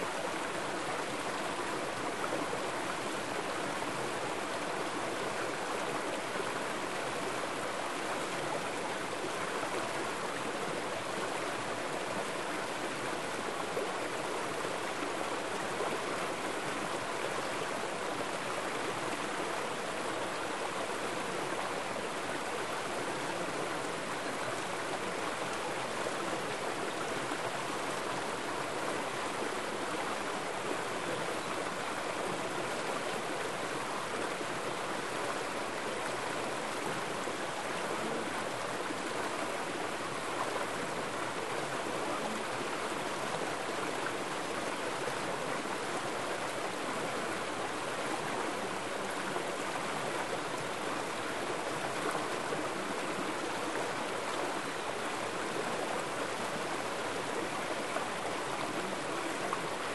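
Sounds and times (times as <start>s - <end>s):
stream water running over rocks: 0.0s - 59.9s.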